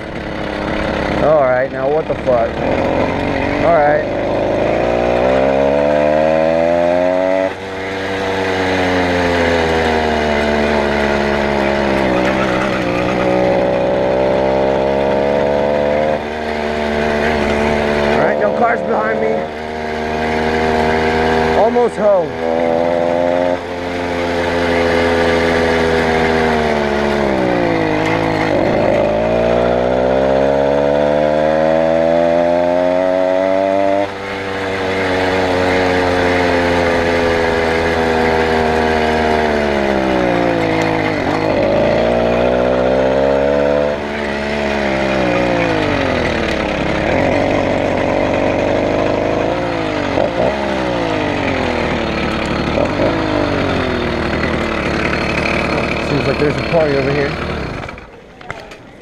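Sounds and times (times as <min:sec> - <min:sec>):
two-stroke engine revving: 0:00.0 - 0:58.8.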